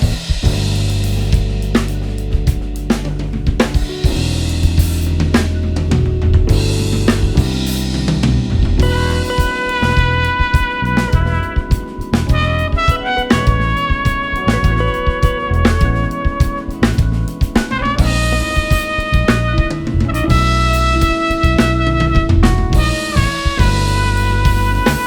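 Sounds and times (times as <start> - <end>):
bass line: 0.0 - 25.0
drum kit playing: 0.0 - 25.0
held melodic notes: 0.0 - 25.0.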